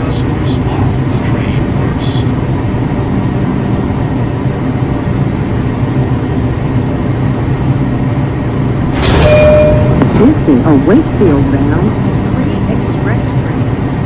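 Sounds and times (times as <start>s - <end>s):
subway train rumble and hum: 0.0s - 14.0s.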